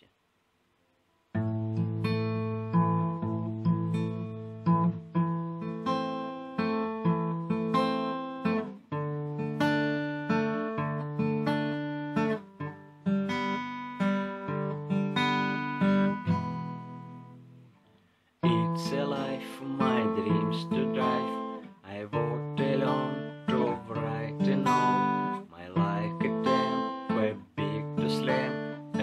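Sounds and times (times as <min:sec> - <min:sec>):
acoustic guitar chords: 0:00.9 - 0:29.0.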